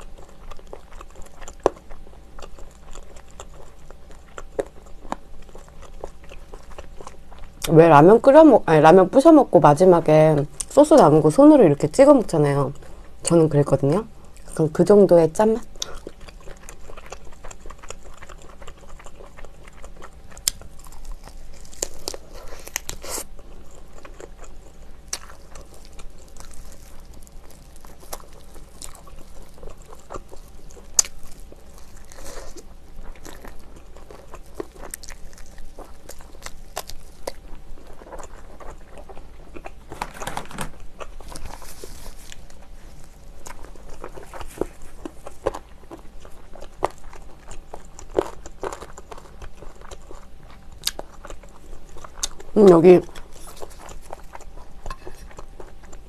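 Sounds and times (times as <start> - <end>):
batter crunching: 0.0 - 8.7, 15.4 - 56.0
biting and chewing fried chicken: 0.0 - 9.2, 10.1 - 56.0.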